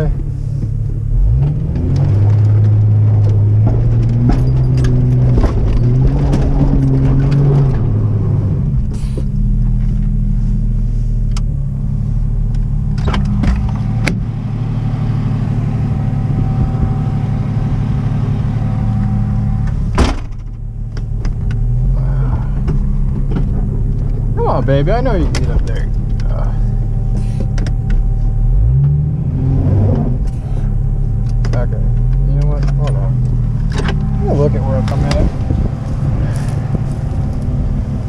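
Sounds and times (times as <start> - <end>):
car engine under load: 0.0 - 38.0.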